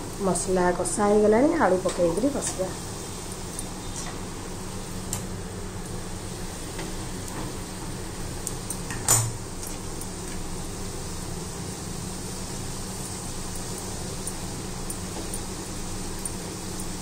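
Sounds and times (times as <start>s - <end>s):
potatoes frying in hot oil: 0.0s - 17.0s.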